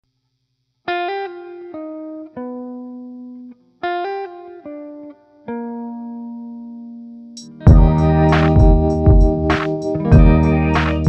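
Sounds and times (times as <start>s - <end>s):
plucked guitar music: 0.9s - 11.0s.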